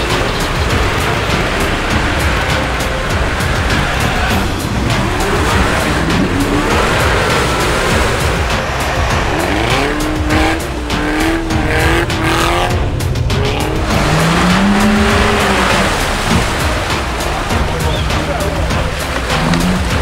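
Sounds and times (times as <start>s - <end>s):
music playing: 0.0s - 20.0s
off-road engine revving hard: 0.0s - 20.0s.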